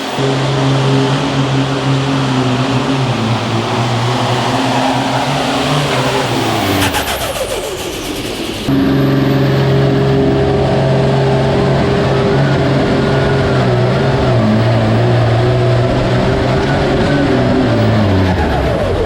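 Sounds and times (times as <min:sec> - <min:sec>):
vehicle engine running hard: 0:00.0 - 0:19.0.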